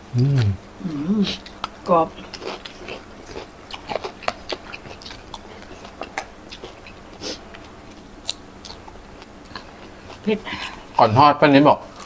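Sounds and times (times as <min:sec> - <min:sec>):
crunching and chewing fried fish: 0:01.4 - 0:11.1.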